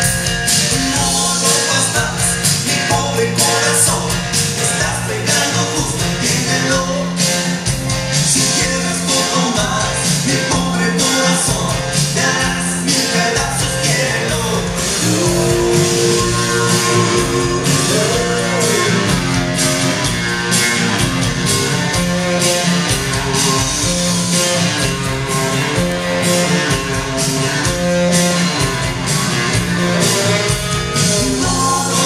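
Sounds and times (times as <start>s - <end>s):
loud music with guitar and beat: 0.0s - 32.0s.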